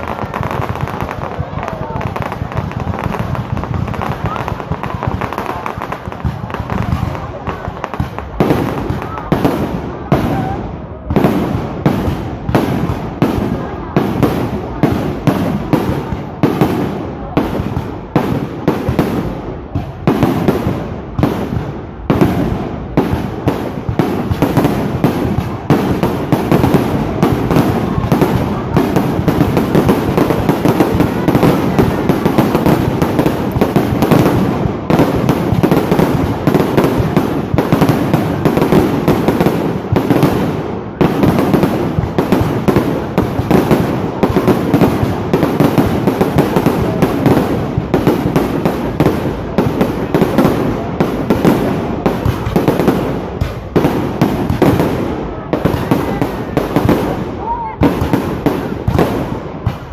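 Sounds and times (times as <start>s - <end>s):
fireworks exploding: 0.0s - 59.9s.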